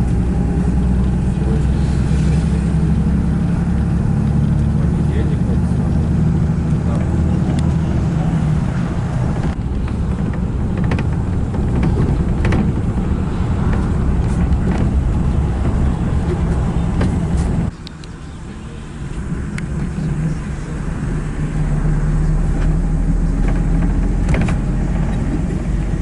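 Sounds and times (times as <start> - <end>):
car engine rumble: 0.0 - 26.0
road noise: 0.0 - 26.0.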